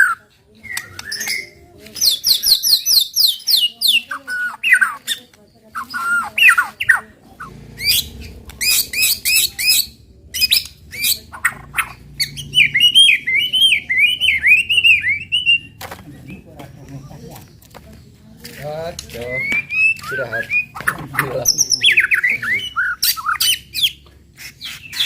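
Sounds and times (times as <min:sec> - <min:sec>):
bird singing varied phrases: 0:00.0 - 0:18.0, 0:19.1 - 0:25.0.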